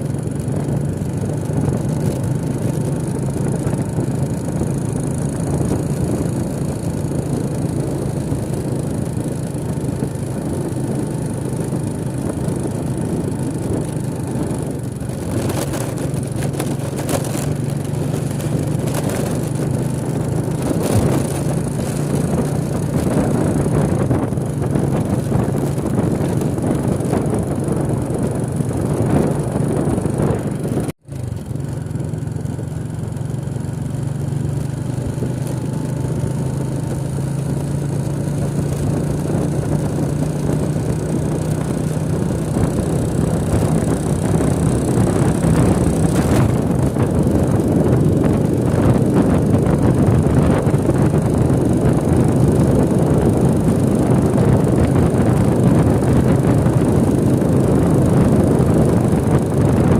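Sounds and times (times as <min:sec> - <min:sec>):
road and wind noise: 0:00.0 - 0:59.9
vehicle engine running: 0:00.0 - 0:59.9.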